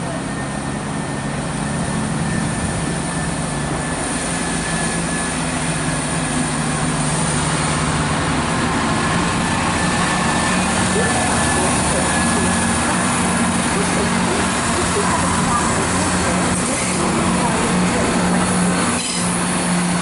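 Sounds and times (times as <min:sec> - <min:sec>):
diesel train engine drone: 0:00.0 - 0:20.0
train on the track: 0:00.0 - 0:20.0.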